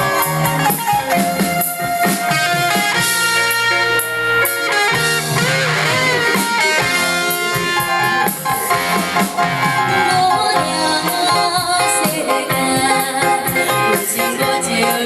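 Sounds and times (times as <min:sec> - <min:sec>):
band playing pop ballad: 0:00.0 - 0:15.0
electric guitar: 0:00.0 - 0:15.0
guitar notes bending: 0:00.0 - 0:15.0.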